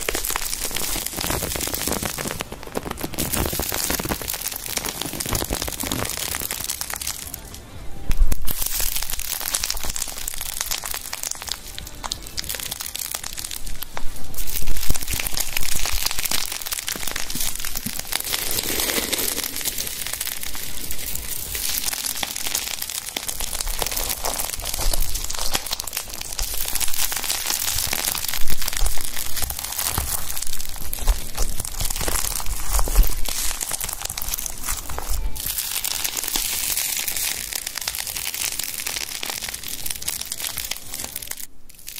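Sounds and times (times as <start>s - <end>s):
dense crackling hiss: 0.0s - 41.9s.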